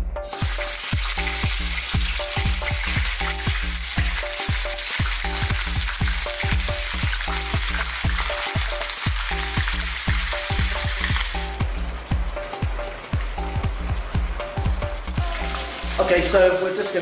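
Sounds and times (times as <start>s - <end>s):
background music with beat: 0.0s - 16.6s
fish sizzling in hot oil: 0.3s - 17.0s.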